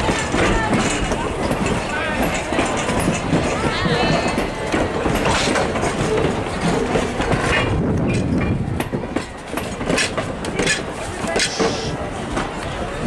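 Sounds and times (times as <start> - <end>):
train rolling rumble: 0.0 - 13.0
train wheels clacking over rail joints: 0.0 - 13.0.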